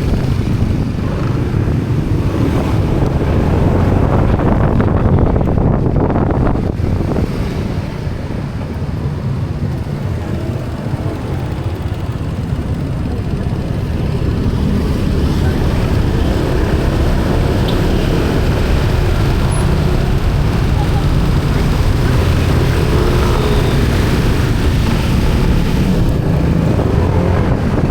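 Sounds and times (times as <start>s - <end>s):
motorbike engine running: 0.0s - 27.9s
wind buffeting microphone: 0.0s - 27.9s.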